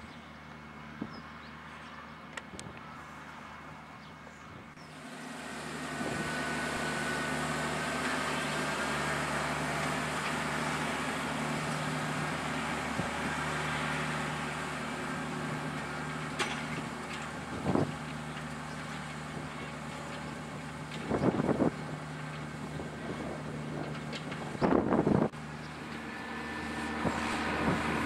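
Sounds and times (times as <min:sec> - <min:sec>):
tractor running steadily: 0:00.0 - 0:28.0.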